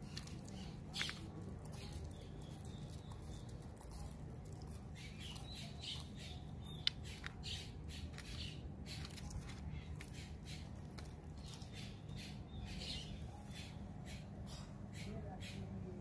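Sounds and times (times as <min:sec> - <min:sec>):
tortoise crunching vegetables: 0:00.0 - 0:15.6.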